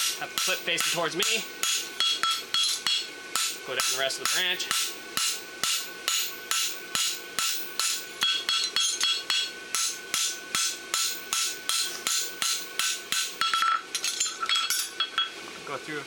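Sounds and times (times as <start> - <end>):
hammer striking metal on anvil: 0.0 - 15.3.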